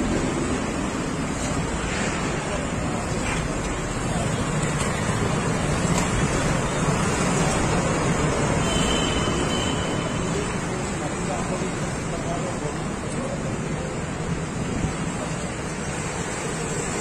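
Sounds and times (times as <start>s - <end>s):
passing traffic: 0.0s - 17.0s
street crowd noise: 0.0s - 17.0s.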